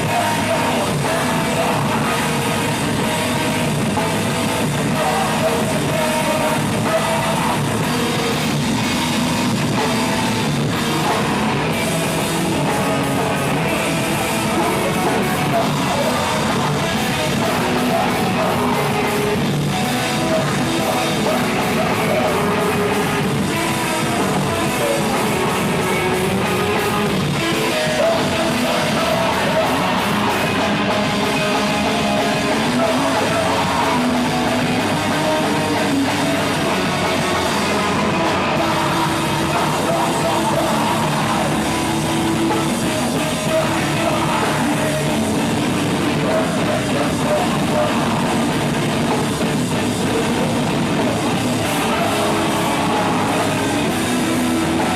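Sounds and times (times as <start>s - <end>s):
live rock band playing: 0.0s - 54.9s
person singing: 0.0s - 54.9s.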